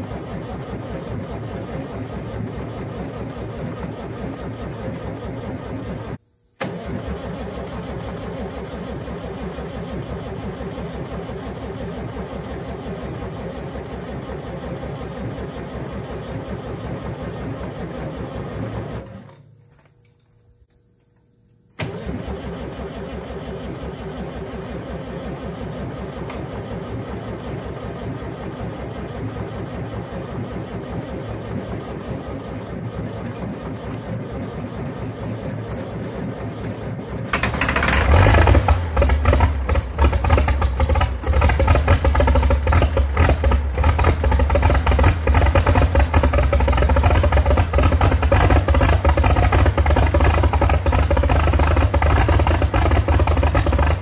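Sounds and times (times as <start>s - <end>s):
diesel engine running: 0.0s - 19.3s, 21.8s - 54.0s
diesel engine cranking on starter: 0.0s - 19.6s, 21.8s - 54.0s.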